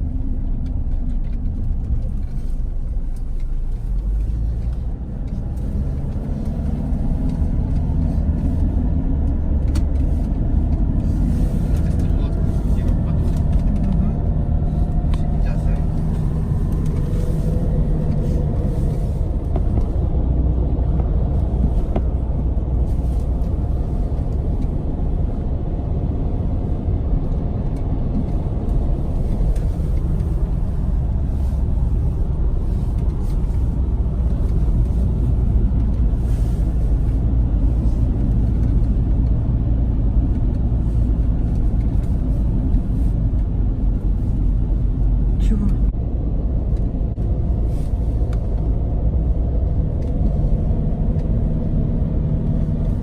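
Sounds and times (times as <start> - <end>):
vehicle driving rumble: 0.0 - 53.0.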